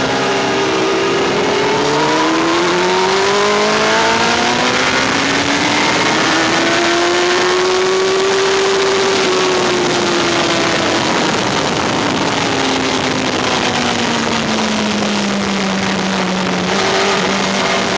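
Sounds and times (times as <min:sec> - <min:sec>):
motorcycle engine: 0:00.0 - 0:17.9
wind rush: 0:00.0 - 0:17.9.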